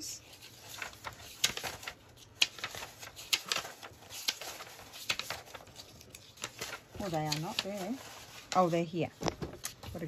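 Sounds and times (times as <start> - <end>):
paper rustling: 0.2 - 10.0
paper sheets flicking: 0.4 - 10.0.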